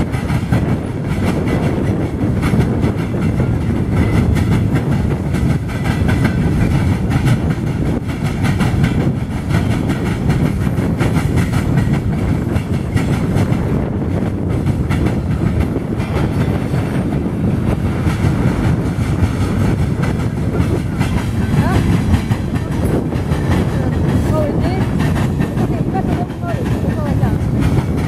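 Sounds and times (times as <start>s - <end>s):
train wheels rumbling on rail: 0.0s - 28.0s
wheels clicking over rail joints: 0.0s - 28.0s.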